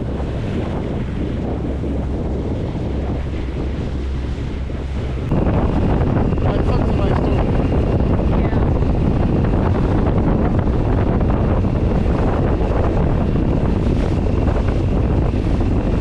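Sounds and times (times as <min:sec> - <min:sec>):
strong wind over microphone: 0:00.0 - 0:16.0.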